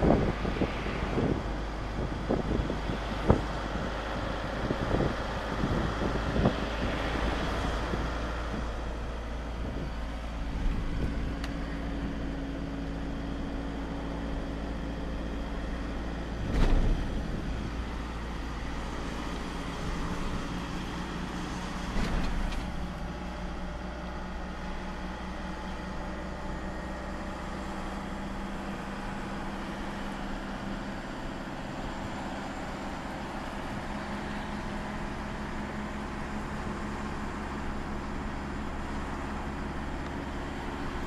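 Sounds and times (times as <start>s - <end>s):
engine and road rumble: 0.0s - 41.0s.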